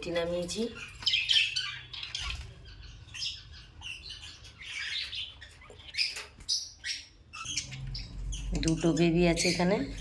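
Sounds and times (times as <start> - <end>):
pet birds chirping and squawking: 0.0 - 10.0.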